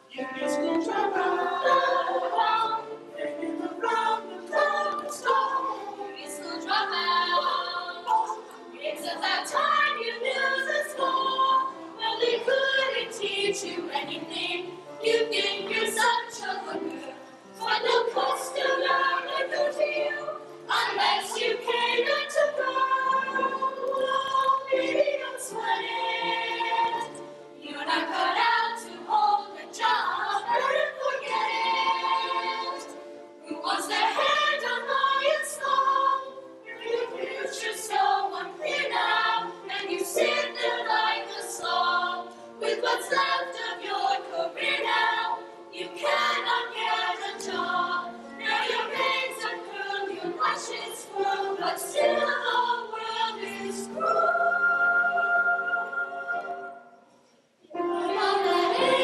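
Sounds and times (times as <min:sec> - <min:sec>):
group of voices singing: 0:00.1 - 0:56.9, 0:57.7 - 0:59.0.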